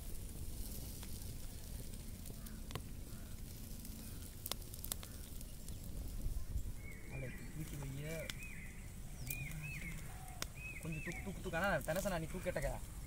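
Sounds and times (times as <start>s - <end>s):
burning wood crackling: 0.0s - 13.0s
meat sizzling over fire: 0.0s - 13.0s.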